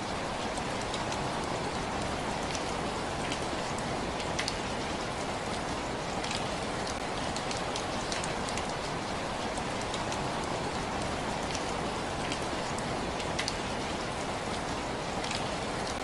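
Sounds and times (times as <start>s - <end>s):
rain patter: 0.0s - 16.0s
sharp raindrop ticks: 0.1s - 16.0s.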